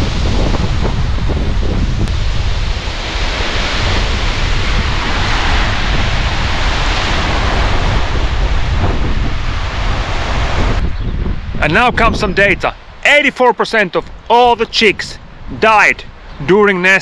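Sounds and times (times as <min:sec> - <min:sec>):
wind buffeting microphone: 0:00.0 - 0:13.2, 0:13.9 - 0:16.7
ocean surf breaking on rocks: 0:00.0 - 0:17.0.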